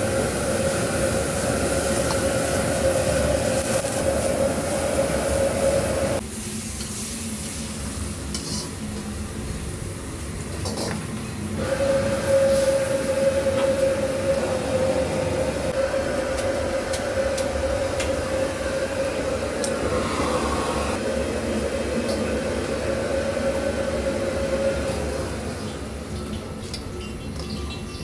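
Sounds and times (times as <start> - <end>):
gas burner roaring: 0.0 - 26.8.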